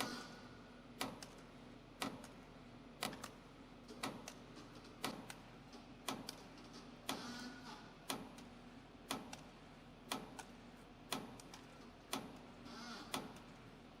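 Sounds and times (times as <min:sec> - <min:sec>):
machine low hum: 0:00.0 - 0:14.0.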